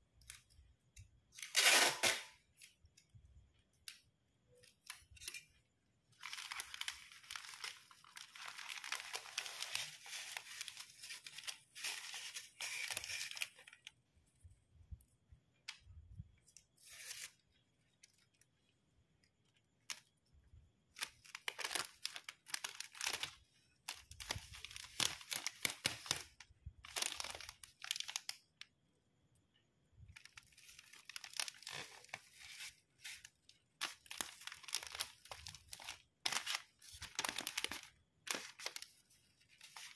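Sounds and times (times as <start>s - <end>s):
plastic wrapping crinkling: 0.2s - 14.0s, 16.4s - 20.3s, 20.9s - 28.6s, 30.1s - 39.9s.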